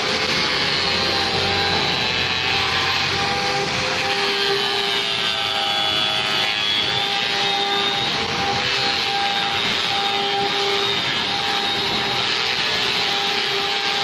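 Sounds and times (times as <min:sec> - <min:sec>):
angle grinder sanding wood: 0:00.0 - 0:14.0.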